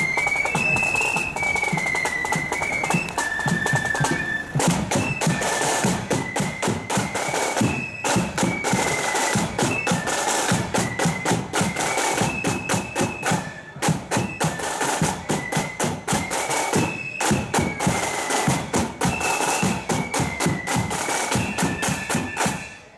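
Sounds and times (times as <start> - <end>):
flute band playing: 0.0 - 22.9
snare and bass drums: 0.0 - 22.9.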